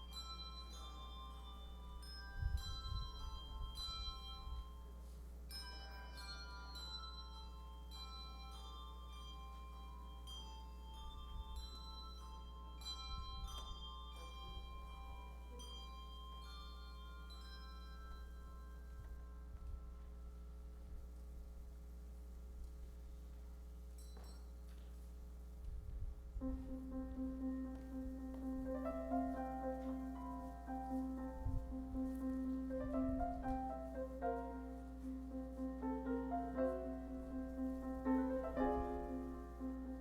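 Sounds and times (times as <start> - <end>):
slow bell-like music: 0.0 - 21.3, 23.8 - 25.0, 26.4 - 40.0
low electrical hum: 0.0 - 40.0.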